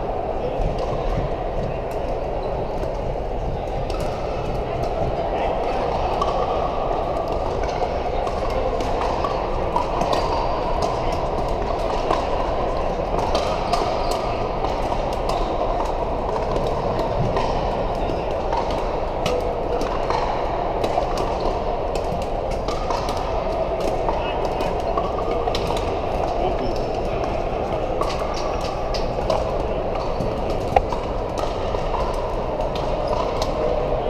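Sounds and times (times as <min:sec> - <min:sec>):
many voices talking: 0:00.0 - 0:34.0.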